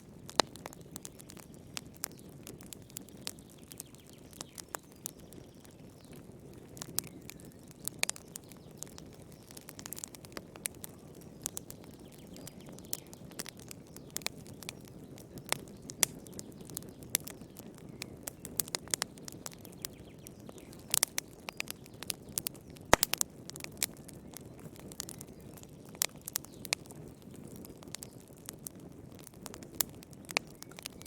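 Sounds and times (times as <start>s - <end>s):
fire crackling and popping: 0.0s - 31.0s
low rumble of flames: 0.0s - 31.0s.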